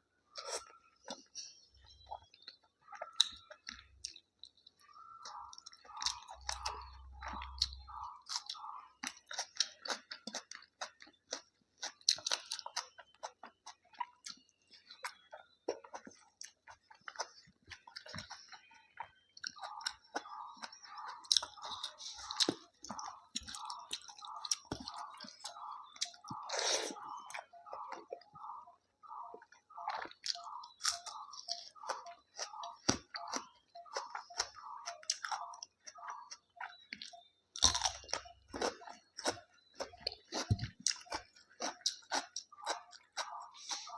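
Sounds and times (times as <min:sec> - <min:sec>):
person chewing food: 0:00.3 - 0:43.9.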